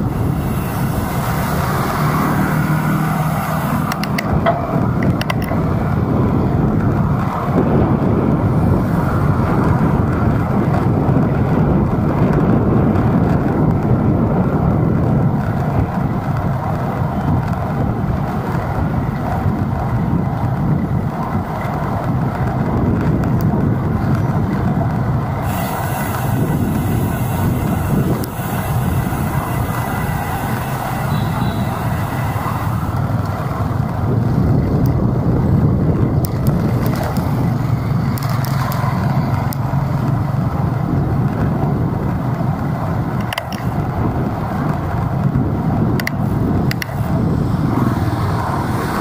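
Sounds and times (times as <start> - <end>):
road traffic: 0.0 - 49.0.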